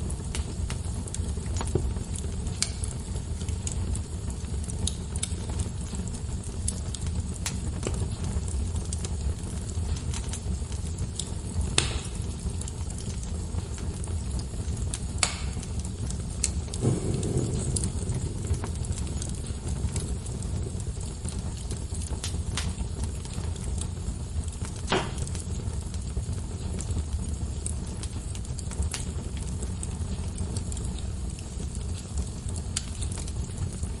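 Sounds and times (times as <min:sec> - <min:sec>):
low rumble and hiss: 0:00.0 - 0:34.0
wood fire crackling and popping: 0:00.0 - 0:34.0.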